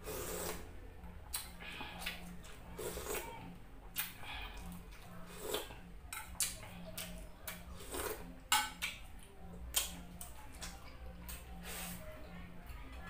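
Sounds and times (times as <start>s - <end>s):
chewing and mouth noises: 0.1s - 13.0s.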